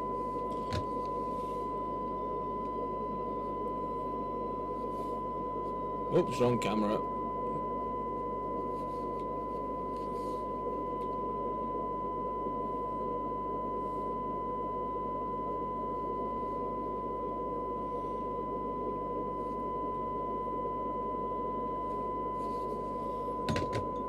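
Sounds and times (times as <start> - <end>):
low buzz: 0.0 - 24.0
steady test tone from speaker: 0.0 - 24.0.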